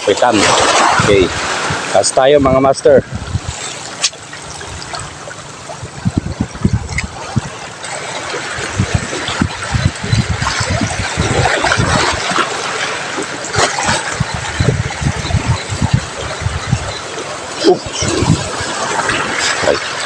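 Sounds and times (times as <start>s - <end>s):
sea water washing over rocks: 0.0s - 20.0s
wind buffeting microphone: 0.0s - 20.0s.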